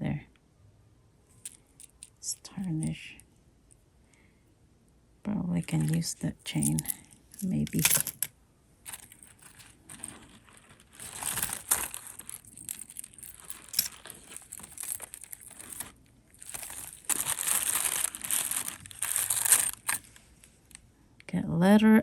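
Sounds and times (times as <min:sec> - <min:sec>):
jewelry crinkling and rustling: 0:01.3 - 0:03.8, 0:05.6 - 0:20.9.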